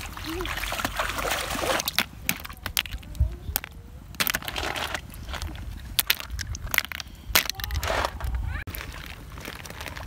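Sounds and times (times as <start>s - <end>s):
snail shells clacking: 1.9s - 10.0s.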